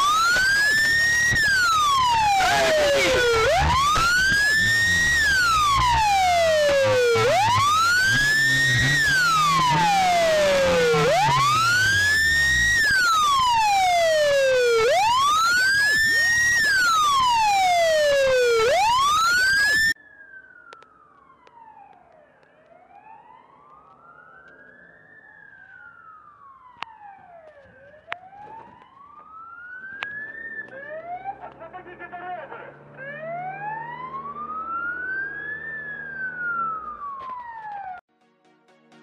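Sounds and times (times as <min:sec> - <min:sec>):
loud siren wailing: 0:00.0 - 0:38.0
faint police siren wailing: 0:00.0 - 0:38.1.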